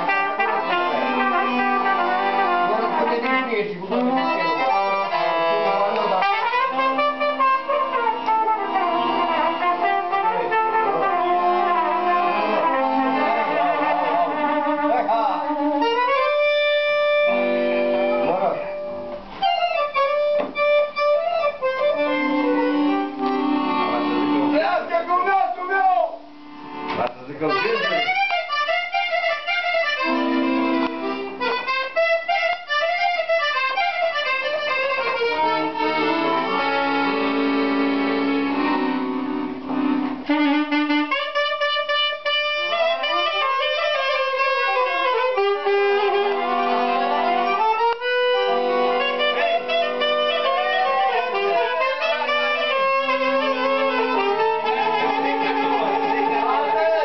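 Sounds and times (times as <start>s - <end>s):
accordion: 0.0s - 57.0s
saxophone: 0.0s - 57.0s.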